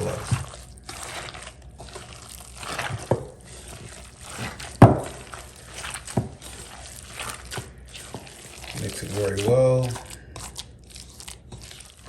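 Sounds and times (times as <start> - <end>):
hands squishing wet meat filling: 0.0 - 12.0.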